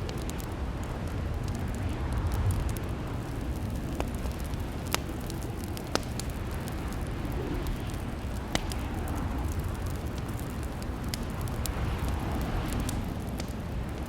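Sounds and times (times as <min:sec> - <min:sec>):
sharp fire pops: 0:00.0 - 0:14.0
wood fire crackling: 0:00.0 - 0:14.0.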